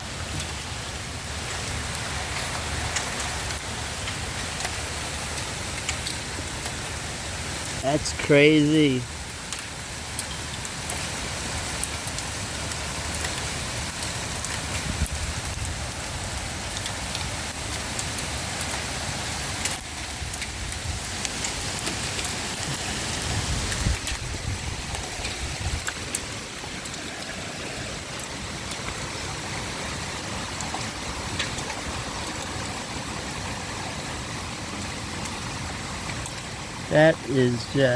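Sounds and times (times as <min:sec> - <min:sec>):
hail and heavy rain hissing: 0:00.0 - 0:37.9
hailstones ticking on hard surfaces: 0:00.0 - 0:37.9.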